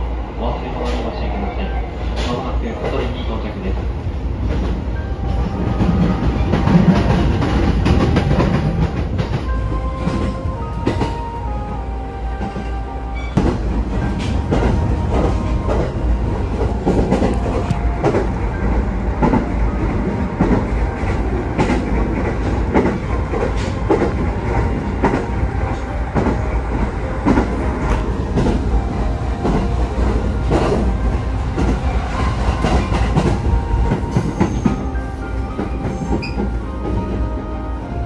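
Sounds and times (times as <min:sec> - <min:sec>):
train rumble inside carriage: 0:00.0 - 0:38.0.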